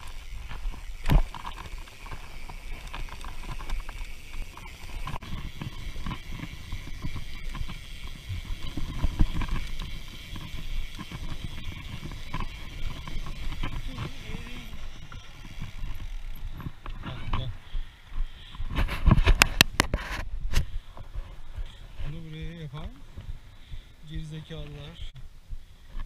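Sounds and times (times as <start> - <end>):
bike rattling over bumps: 0.0 - 22.9.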